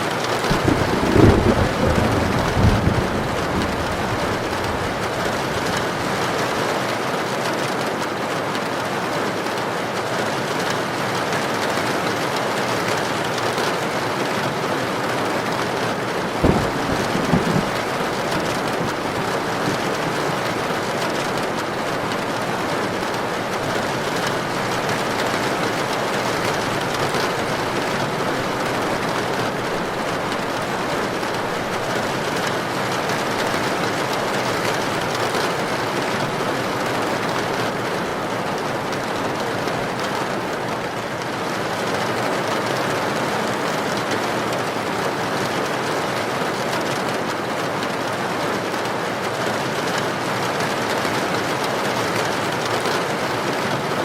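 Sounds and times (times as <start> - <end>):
heavy rain: 0.0 - 54.0
wind: 0.0 - 54.0.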